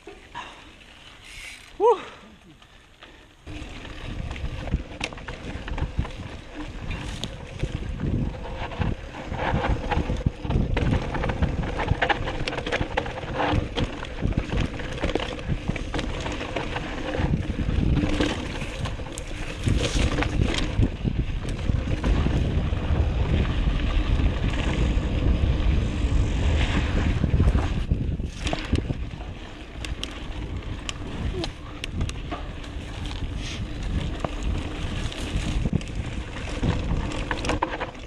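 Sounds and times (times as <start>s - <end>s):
bike tyres rolling over dirt: 0.0s - 38.0s
bike clattering over bumps: 3.4s - 38.0s
wind buffeting microphone: 3.5s - 38.0s.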